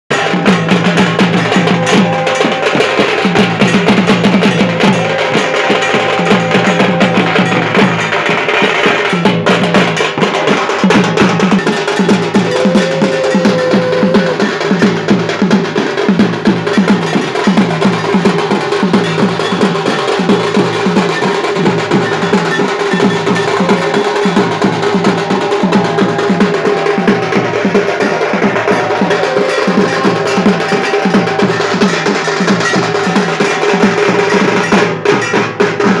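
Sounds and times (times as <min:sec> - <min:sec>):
barrel drums beaten with sticks: 0:00.1 - 0:36.0.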